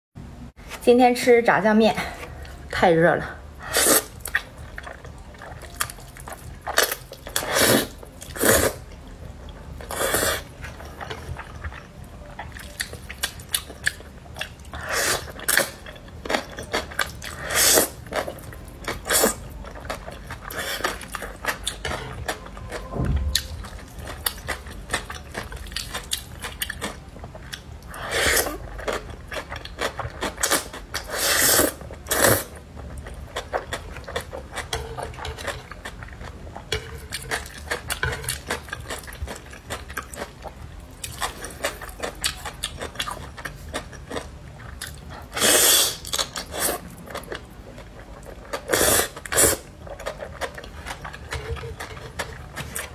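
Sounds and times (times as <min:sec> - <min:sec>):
wet chewing: 0:03.8 - 0:52.9.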